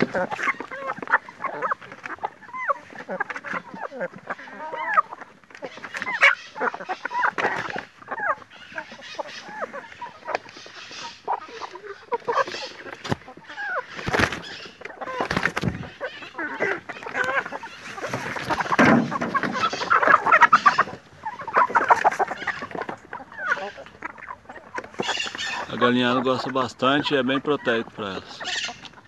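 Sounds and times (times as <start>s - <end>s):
hens clucking: 0.0s - 29.0s.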